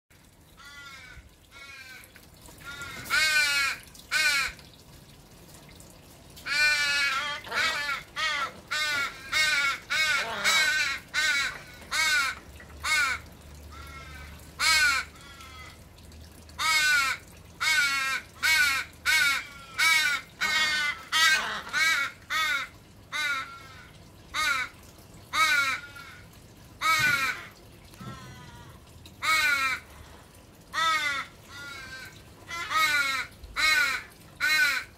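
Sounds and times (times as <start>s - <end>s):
ravens cawing: 0.6s - 4.6s, 6.5s - 15.8s, 16.6s - 34.9s.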